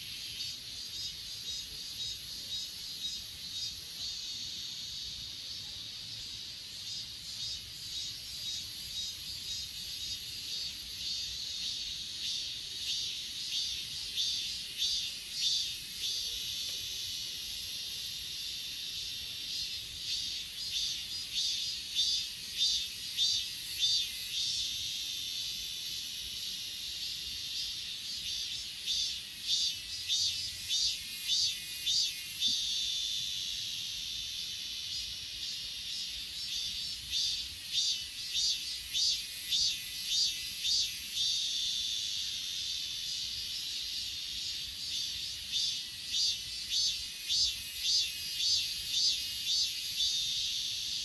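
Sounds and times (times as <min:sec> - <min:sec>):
crickets trilling: 0:00.0 - 0:51.0
loud repeated insect chirps: 0:00.0 - 0:51.0.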